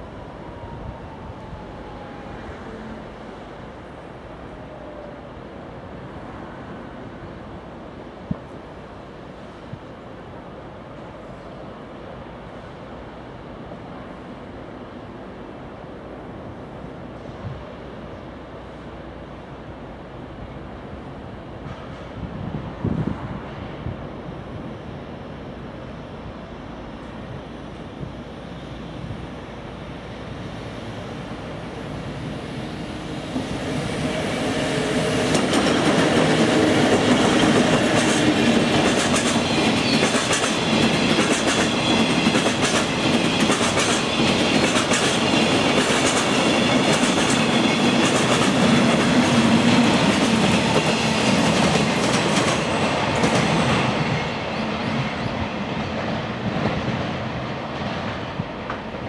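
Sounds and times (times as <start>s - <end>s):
freight train passing: 0.0s - 59.0s.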